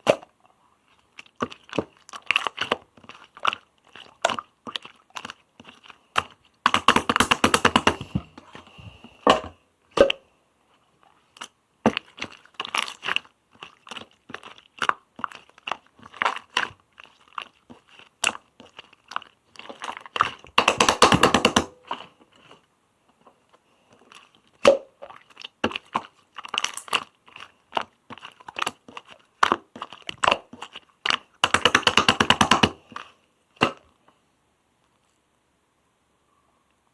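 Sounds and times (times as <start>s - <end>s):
slime squished by hand: 0.0s - 8.5s, 11.0s - 22.5s, 24.0s - 33.8s
rapid crackling of slime: 0.8s - 8.8s, 10.9s - 22.6s, 23.6s - 33.8s.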